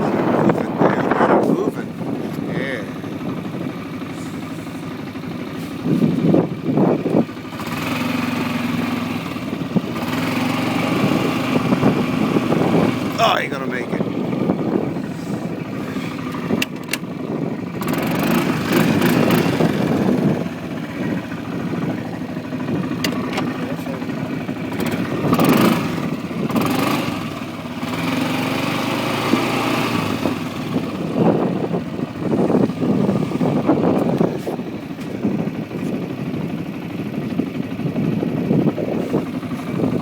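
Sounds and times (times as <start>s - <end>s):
atv engine running: 0.0s - 40.0s.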